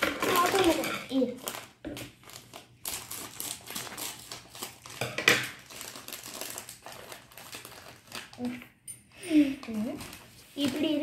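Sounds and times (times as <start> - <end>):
plastic wrapper crinkling: 0.0 - 8.8, 9.4 - 11.0.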